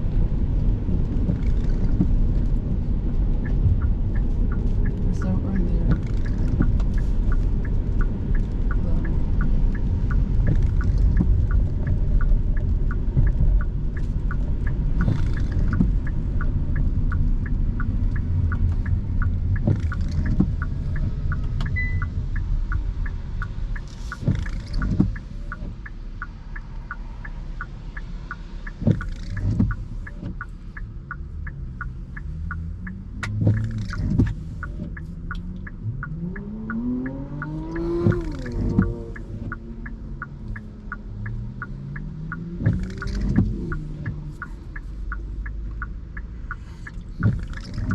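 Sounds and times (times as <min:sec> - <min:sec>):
car engine and road rumble: 0:00.0 - 0:47.9
fast regular ticking: 0:00.3 - 0:47.9.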